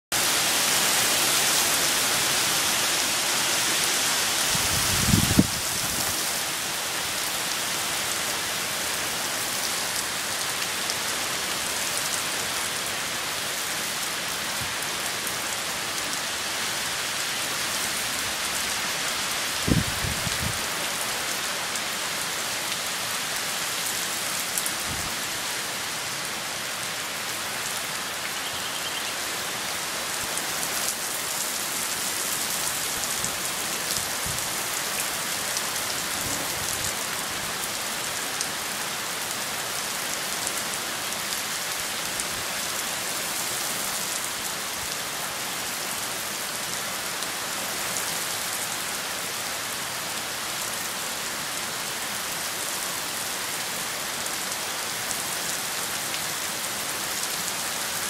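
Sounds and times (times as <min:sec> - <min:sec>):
heavy rain on pavement: 0:00.1 - 0:58.0.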